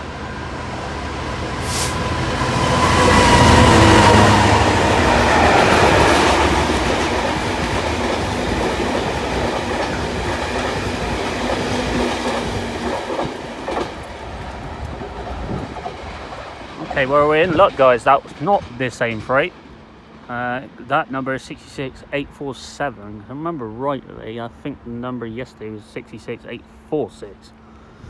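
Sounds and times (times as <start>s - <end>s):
diesel locomotive passing: 0.0s - 28.0s.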